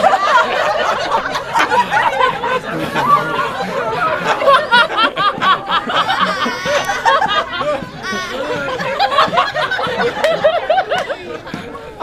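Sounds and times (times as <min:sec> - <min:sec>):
crowd laughing: 0:00.0 - 0:12.0
people chattering: 0:00.0 - 0:12.0.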